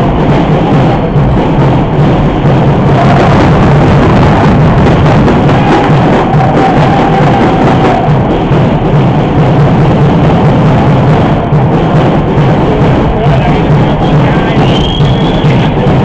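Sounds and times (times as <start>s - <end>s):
crowd din in a hall: 0.0s - 16.0s
drumming: 0.0s - 16.0s.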